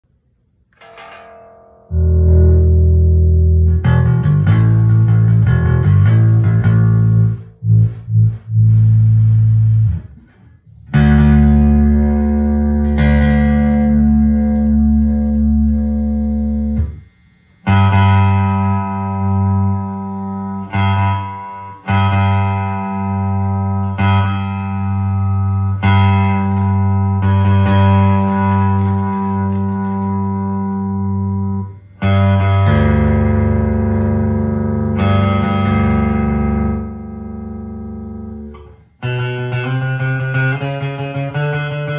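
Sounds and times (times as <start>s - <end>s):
electric bass guitar playing solo: 1.3s - 41.9s.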